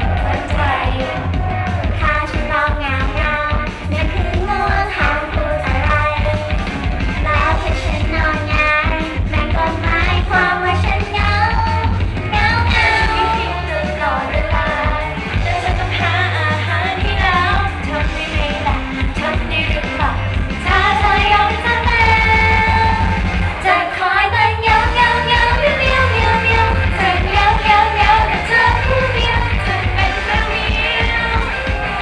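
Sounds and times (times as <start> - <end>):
backing track with bass line: 0.0 - 32.0
women singing pop song: 0.0 - 32.0.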